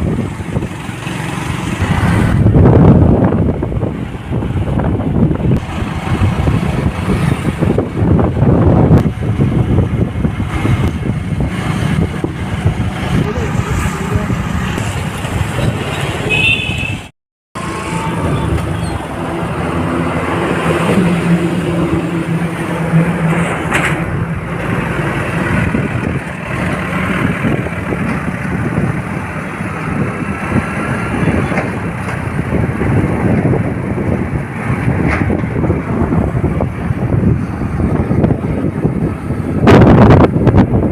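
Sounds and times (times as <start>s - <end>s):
road and traffic noise: 0.0s - 40.9s.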